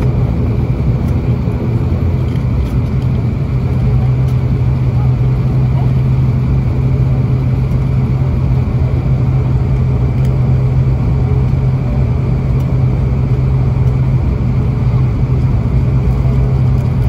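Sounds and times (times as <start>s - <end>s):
engine and airflow noise: 0.0s - 17.0s
propeller drone: 0.0s - 17.0s.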